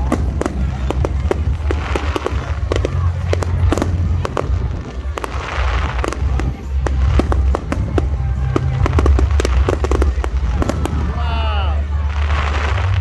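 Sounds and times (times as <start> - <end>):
fireworks banging and crackling: 0.0 - 13.0
hissing firework burst: 0.0 - 13.0.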